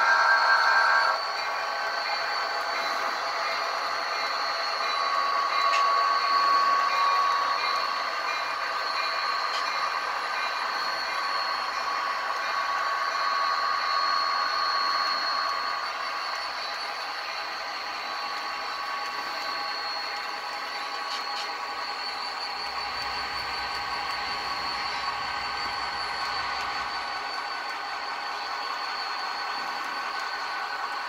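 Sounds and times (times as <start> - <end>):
thin high whine: 0.0 - 31.0.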